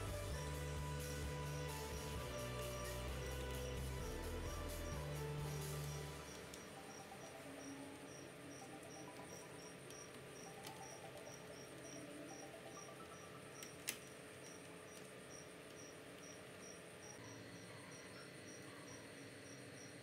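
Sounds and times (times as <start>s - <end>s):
cricket chirping: 3.5s - 20.0s.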